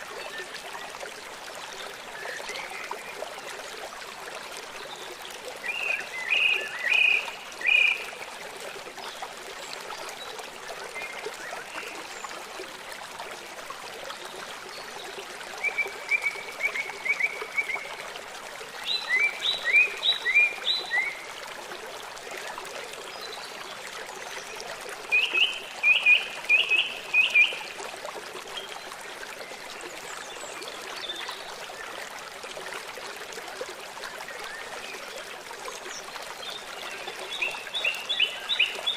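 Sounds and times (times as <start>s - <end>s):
river water running: 0.0s - 38.9s.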